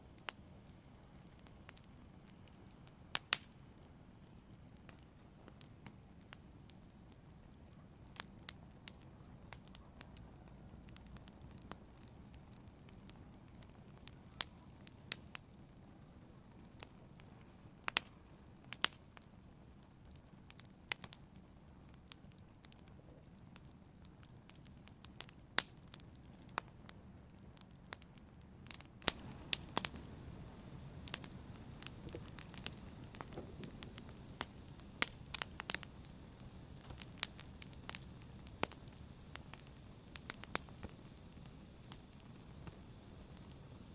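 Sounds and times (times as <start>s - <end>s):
logs crackling in a fireplace: 0.0s - 43.9s
low rush of flames: 0.1s - 43.9s.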